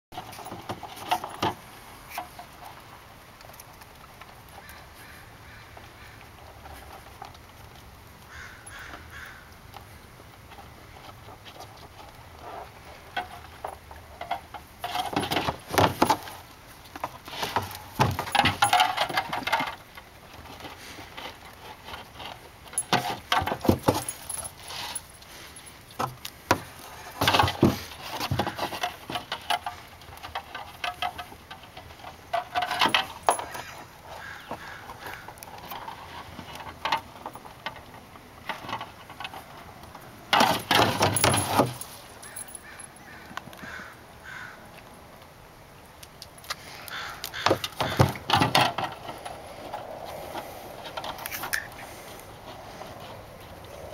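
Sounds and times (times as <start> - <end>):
rattling and scraping on plastic: 0.1 - 4.4, 10.4 - 42.9, 47.4 - 53.9.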